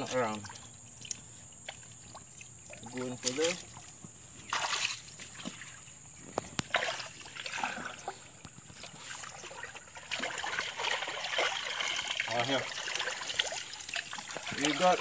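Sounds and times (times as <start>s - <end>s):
hands scooping through water: 0.0s - 15.0s
water splashing and sloshing: 0.0s - 15.0s.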